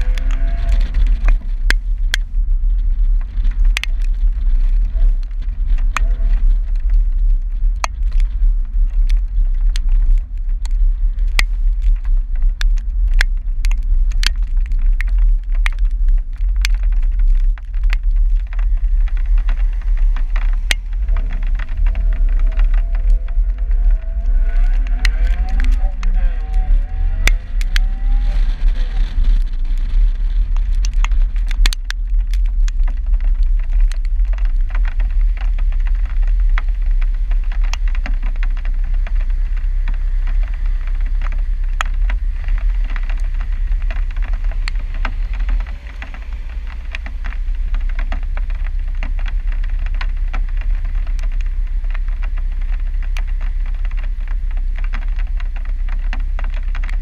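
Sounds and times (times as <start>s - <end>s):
car low rumble: 0.0s - 57.0s
raindrops tapping on camera: 0.0s - 57.0s.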